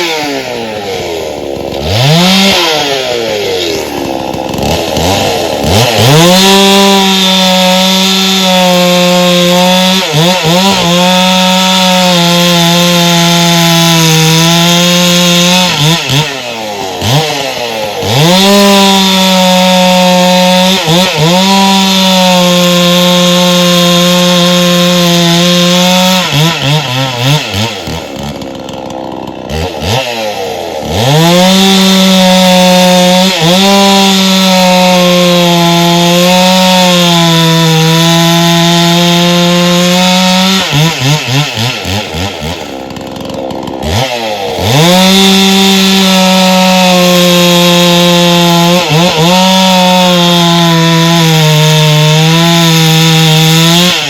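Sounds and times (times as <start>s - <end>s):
chainsaw cutting firewood: 0.0s - 54.0s.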